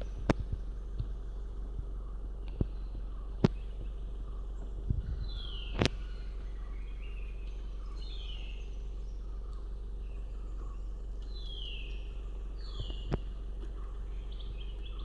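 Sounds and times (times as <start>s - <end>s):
bird calling: 0.0s - 15.0s
steady low rumble: 0.0s - 15.0s.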